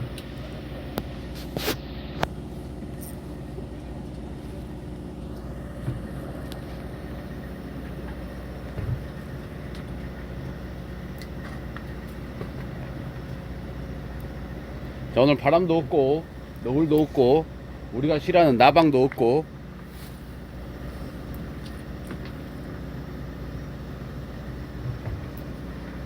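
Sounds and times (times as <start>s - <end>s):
boat machinery humming: 0.0s - 26.0s.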